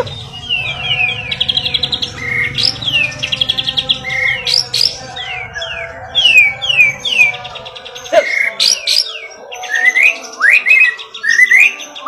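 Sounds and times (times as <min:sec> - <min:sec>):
songbird trills and whistles: 0:00.0 - 0:12.0.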